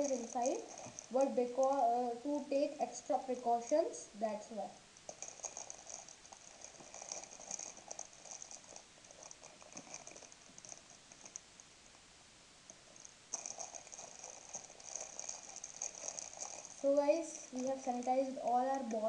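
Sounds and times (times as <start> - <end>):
plastic wrappers crinkling: 0.0 - 4.2, 5.0 - 11.7, 12.9 - 19.0.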